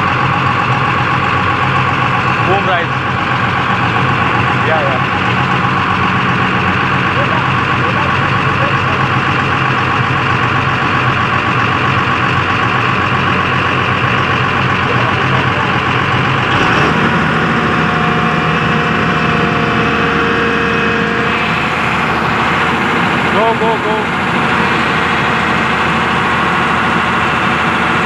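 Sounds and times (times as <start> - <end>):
excavator diesel engine running: 0.0 - 28.0
steady whine: 0.0 - 28.0.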